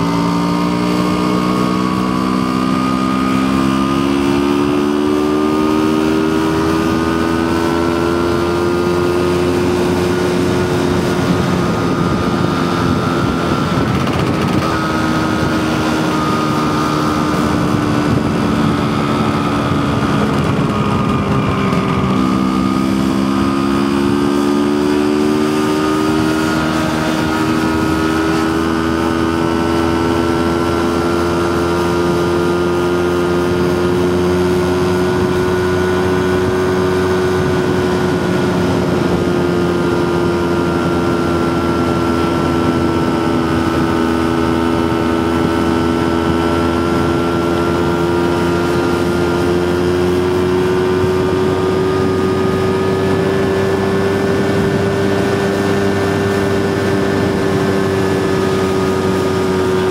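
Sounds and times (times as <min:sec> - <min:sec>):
scooter engine running: 0:00.0 - 0:59.9
wind noise: 0:00.0 - 0:59.9.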